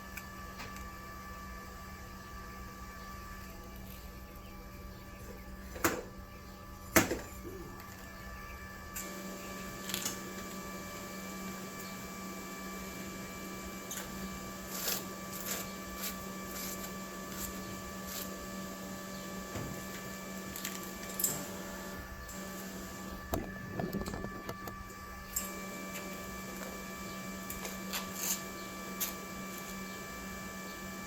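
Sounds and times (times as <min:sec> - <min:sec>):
welder hum: 0:00.0 - 0:31.0.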